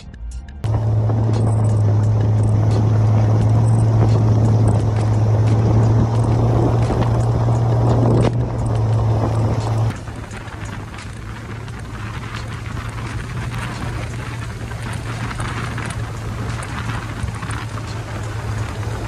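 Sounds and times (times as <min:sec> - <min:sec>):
engine droning at steady revs: 0:00.6 - 0:19.0
stones ticking: 0:00.7 - 0:19.0
tyres rushing on gravel: 0:00.7 - 0:19.0.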